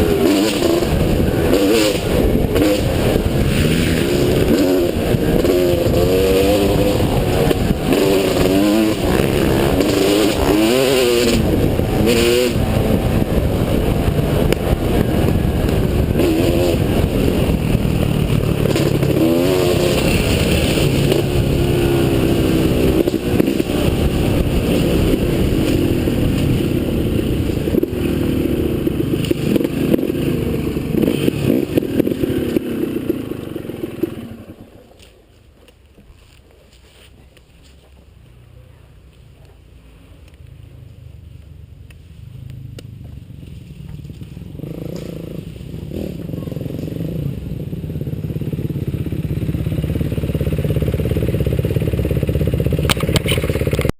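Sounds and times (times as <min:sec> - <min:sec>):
motocross bike engine revving: 0:00.0 - 0:34.8, 0:42.4 - 0:53.9.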